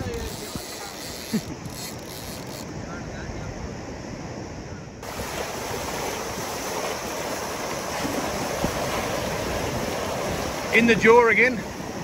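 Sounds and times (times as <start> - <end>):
wind on microphone: 0.0 - 11.0
surf washing up beach: 0.0 - 12.0.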